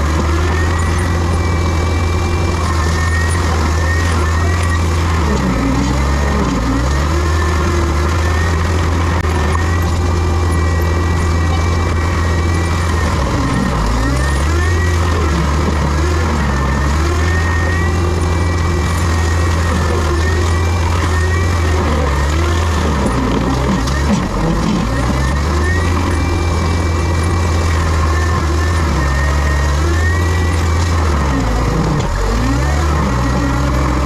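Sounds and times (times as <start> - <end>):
diesel engine drone: 0.0 - 34.0
wavering high whine: 0.0 - 34.0.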